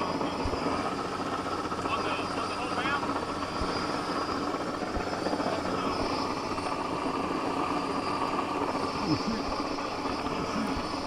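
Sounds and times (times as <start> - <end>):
helicopter running: 0.0 - 11.0.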